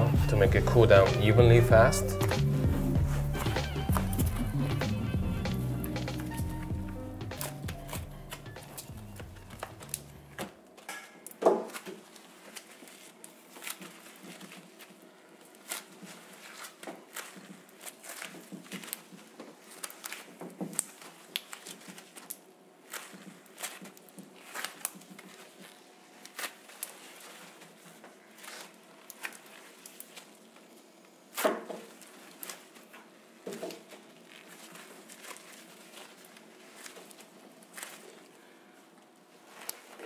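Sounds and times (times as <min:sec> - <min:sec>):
hands working sticky candy: 0:00.0 - 0:40.0.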